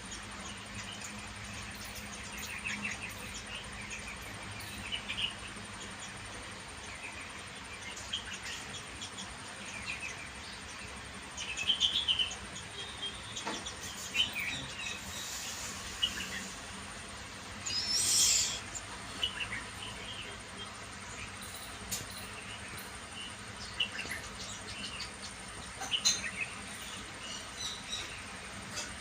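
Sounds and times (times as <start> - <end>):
birds chirping: 0.0 - 29.0
insects buzzing: 0.0 - 29.0.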